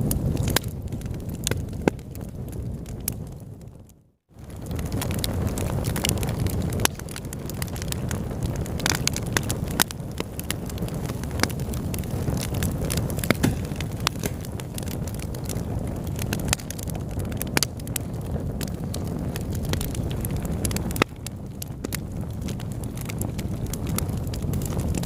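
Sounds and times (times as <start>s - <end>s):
low rush of flames: 0.0s - 25.0s
wood fire crackling and popping: 0.0s - 25.0s.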